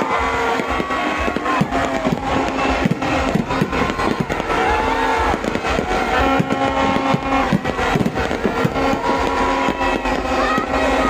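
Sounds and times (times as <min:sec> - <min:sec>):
crowd noise: 0:00.0 - 0:11.0
fireworks bangs: 0:00.0 - 0:11.0.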